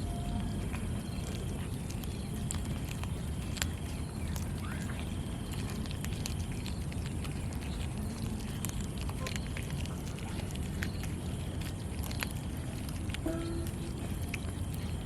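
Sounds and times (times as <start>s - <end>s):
cats chewing fish: 0.0s - 15.0s
low rumble: 0.0s - 15.0s
small clicks and crunches: 0.0s - 15.0s.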